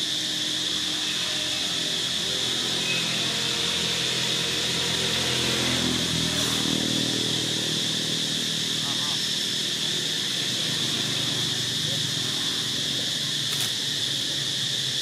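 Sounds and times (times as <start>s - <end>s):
high-pitched drone: 0.0s - 15.0s
low engine-like hum: 0.0s - 15.0s.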